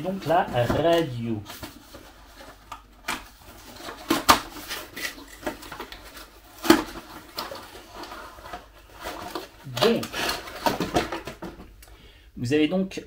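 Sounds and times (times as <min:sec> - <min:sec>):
cardboard packaging rustling: 0:00.0 - 0:11.8.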